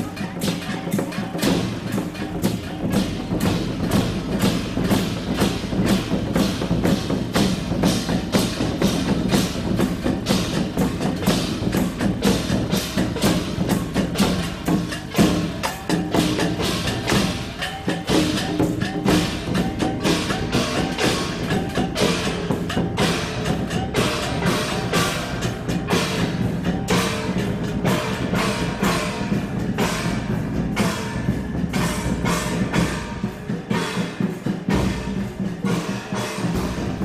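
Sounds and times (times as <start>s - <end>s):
barrel drum beaten: 0.0s - 37.0s
hand cymbals clashing: 0.0s - 37.0s.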